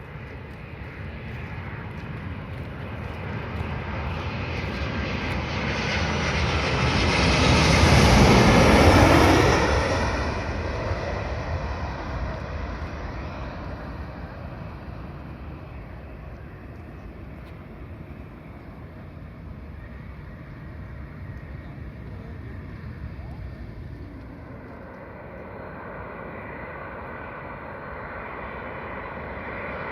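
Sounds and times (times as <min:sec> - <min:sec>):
jet airliner passing overhead: 0:00.0 - 0:29.9.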